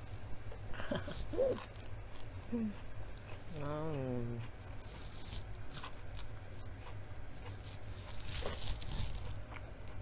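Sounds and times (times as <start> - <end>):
chewing crisp lettuce: 0.0 - 10.0
steady low hum: 0.0 - 10.0.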